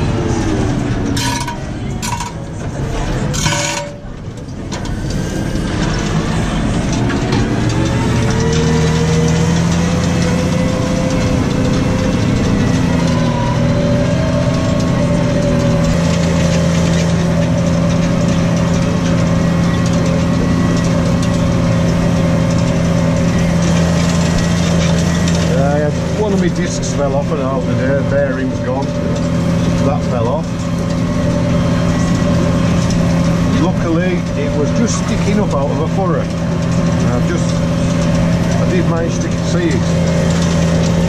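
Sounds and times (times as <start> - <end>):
tractor diesel engine droning: 0.0 - 41.0.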